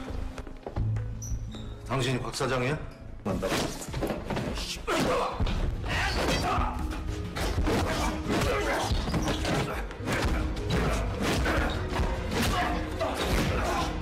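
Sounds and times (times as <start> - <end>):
film background music: 0.0 - 14.0.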